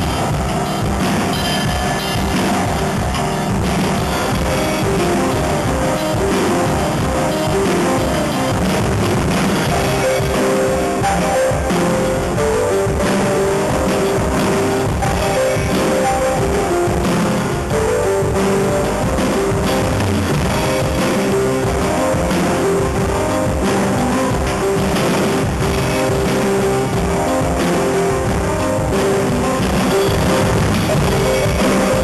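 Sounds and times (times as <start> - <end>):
electronic keyboard notes: 0.0 - 32.0
steady drum beat: 0.0 - 32.0.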